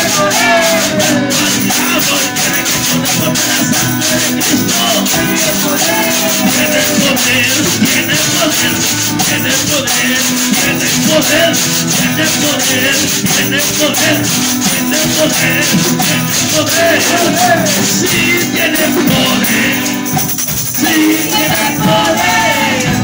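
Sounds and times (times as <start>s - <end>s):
man singing into microphone: 0.0s - 23.0s
shaker rhythm: 0.0s - 23.0s
strummed acoustic guitar: 0.0s - 23.0s.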